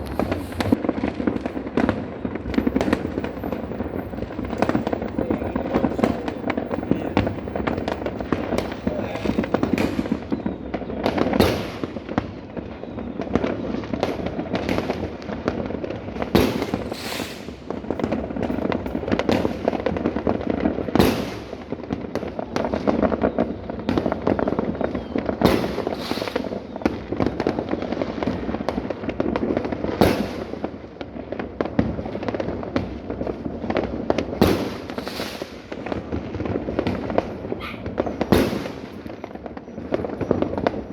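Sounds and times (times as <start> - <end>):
firecrackers crackling: 0.0 - 40.9
fireworks bangs: 0.0 - 40.9.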